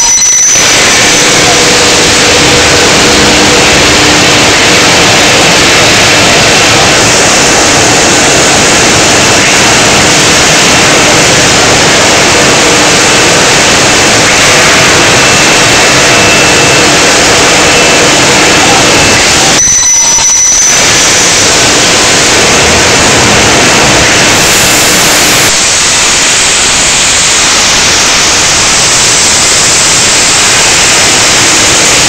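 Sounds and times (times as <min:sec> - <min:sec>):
tube mill machine running: 0:00.0 - 0:32.0.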